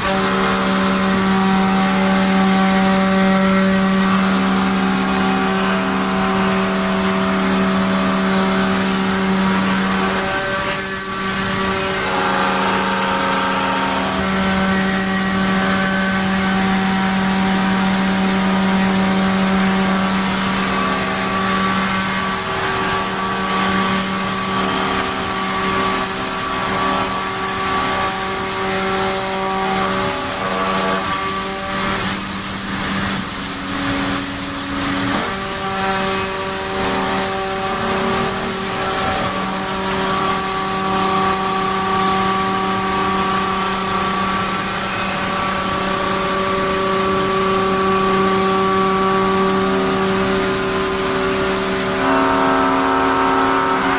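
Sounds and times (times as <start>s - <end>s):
router bit cutting wood: 0.0s - 53.9s
router spindle whining: 0.0s - 53.9s.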